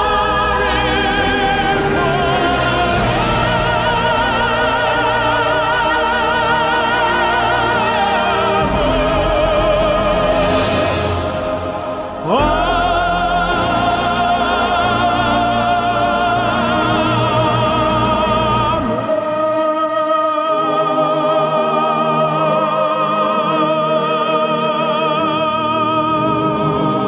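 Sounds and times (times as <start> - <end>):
orchestra and choir: 0.0 - 27.0.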